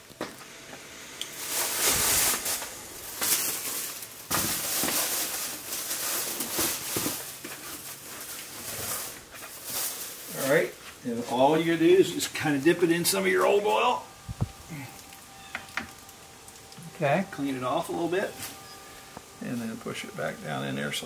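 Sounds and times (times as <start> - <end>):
hands rustling a rag: 1.4 - 21.0.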